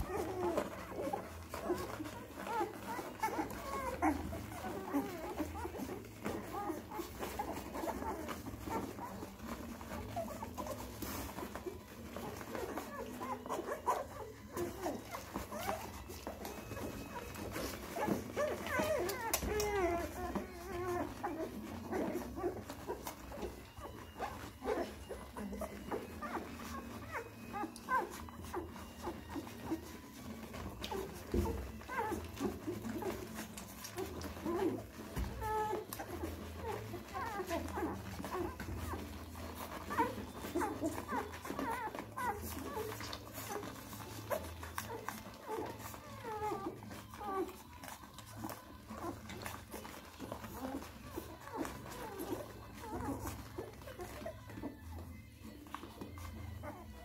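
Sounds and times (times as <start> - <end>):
puppies squeaking and whimpering: 0.0 - 57.0.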